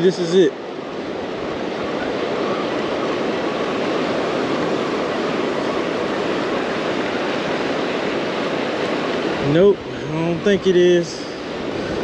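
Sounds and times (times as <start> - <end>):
waves washing onto beach: 0.0 - 12.0.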